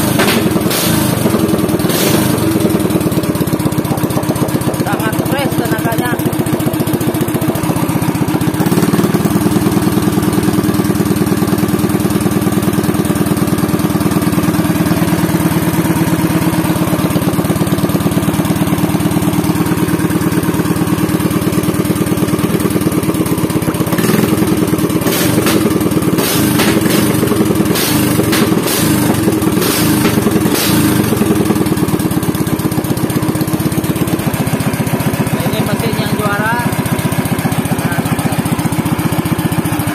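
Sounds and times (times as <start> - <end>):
boat engine idling: 0.0 - 25.0, 26.8 - 39.9
exhaust cracks: 0.0 - 39.9.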